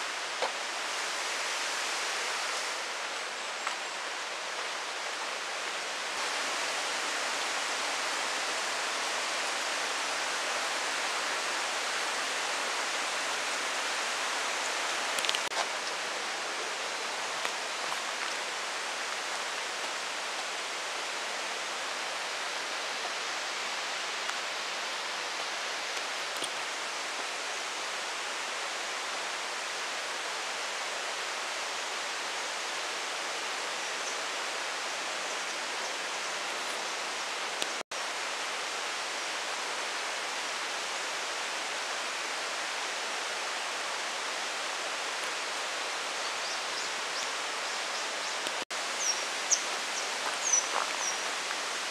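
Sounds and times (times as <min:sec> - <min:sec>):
outdoor background hiss: 0:00.0 - 0:51.9.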